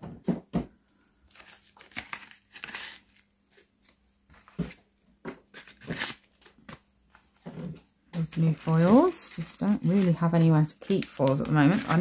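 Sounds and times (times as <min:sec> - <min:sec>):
paper and plastic packets rustling: 0:01.3 - 0:04.8, 0:05.5 - 0:12.0.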